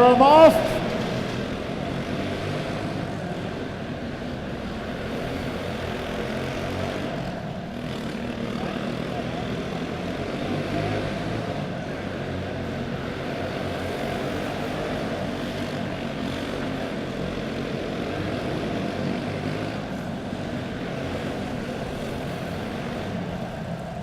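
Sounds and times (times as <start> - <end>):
racing karts buzzing: 0.0 - 24.0.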